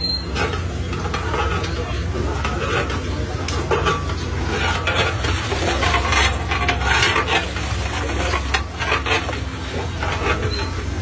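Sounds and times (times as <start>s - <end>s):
metal ladle scraping a pot: 0.0s - 11.0s.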